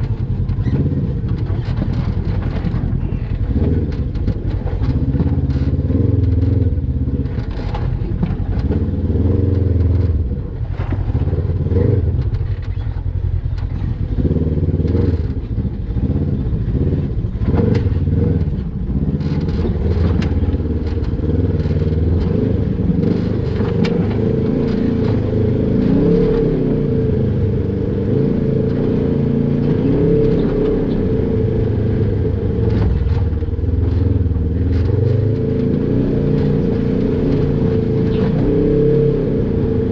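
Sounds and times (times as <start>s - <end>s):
vehicle knocking and scraping on rocks: 0.0s - 39.1s
off-road vehicle engine revving: 0.0s - 39.9s.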